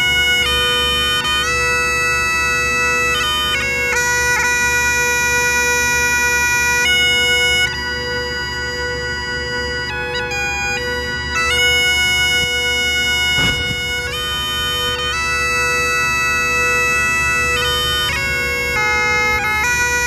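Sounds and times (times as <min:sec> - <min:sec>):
bagpipes playing a tune: 0:00.0 - 0:20.0.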